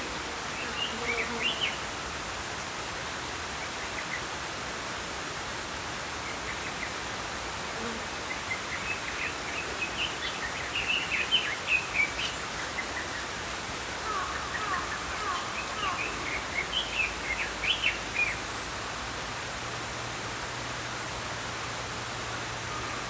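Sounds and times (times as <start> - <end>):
stream flowing: 1.8 - 23.0.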